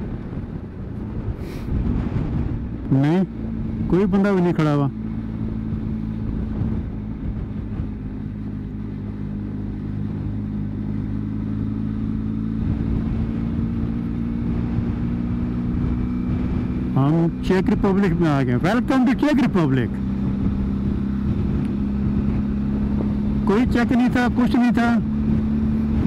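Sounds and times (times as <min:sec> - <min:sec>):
wind noise on microphone: 0:00.0 - 0:09.2, 0:11.7 - 0:18.6, 0:19.9 - 0:26.0
motorcycle engine cruising: 0:00.0 - 0:26.0.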